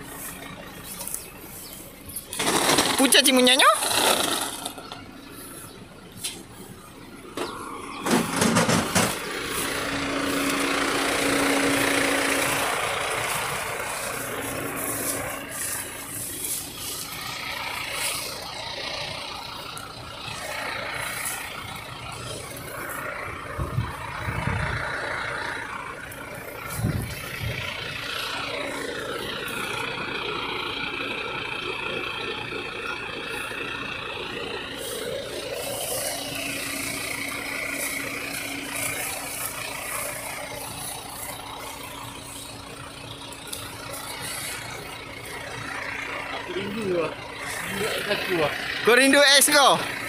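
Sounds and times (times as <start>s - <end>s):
vehicle engine idling: 0.0s - 50.0s.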